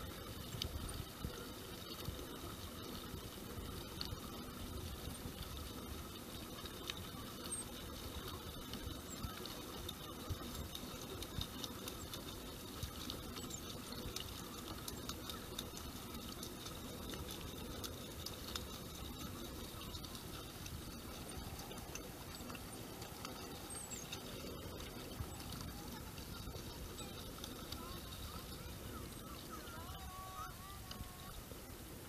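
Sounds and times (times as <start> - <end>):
water drips and splashes: 0.0 - 32.0
waves lapping against hull: 0.0 - 32.0.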